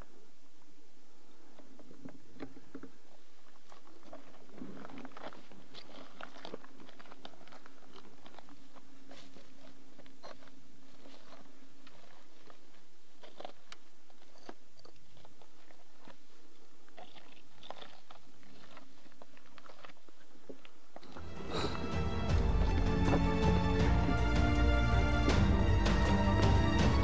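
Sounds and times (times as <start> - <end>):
footsteps crunching on rock: 2.4 - 24.4.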